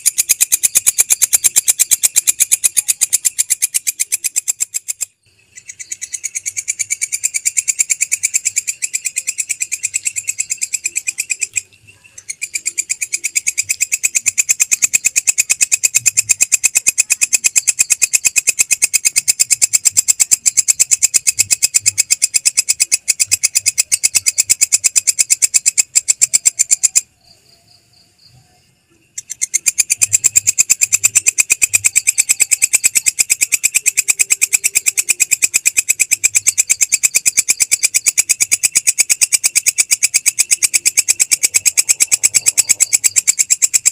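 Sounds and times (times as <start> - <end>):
katydid stridulating: 0.0 - 43.9.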